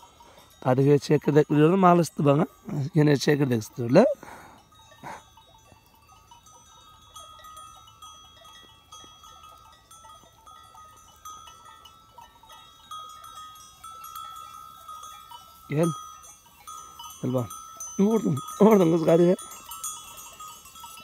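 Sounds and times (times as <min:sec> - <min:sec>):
sheep flock grazing: 0:00.0 - 0:21.0.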